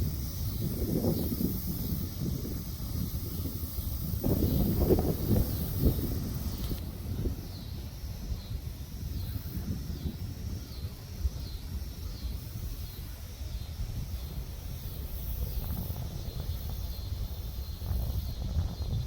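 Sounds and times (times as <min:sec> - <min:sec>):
storm wind buffeting microphone: 0:00.0 - 0:19.0.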